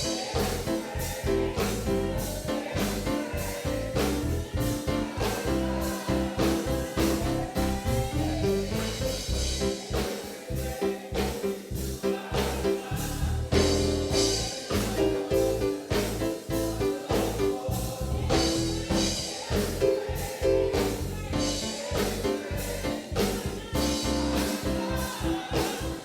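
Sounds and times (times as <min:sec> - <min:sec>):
gospel band music: 0:00.0 - 0:26.0
moving bass line: 0:00.0 - 0:26.0
steady drum beat: 0:00.0 - 0:26.0.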